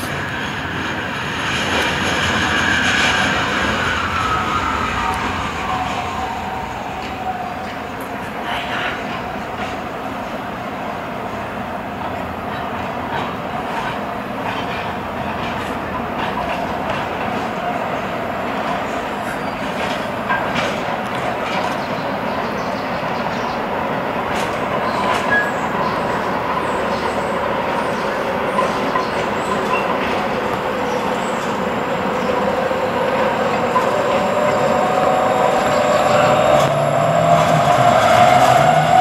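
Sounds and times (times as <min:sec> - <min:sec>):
light-rail train rumble: 0:00.0 - 0:39.0
train whine: 0:00.0 - 0:39.0.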